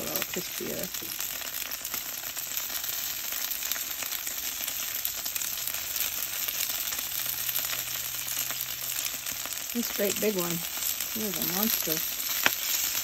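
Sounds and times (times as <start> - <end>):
bacon sizzling on griddle: 0.0 - 13.0.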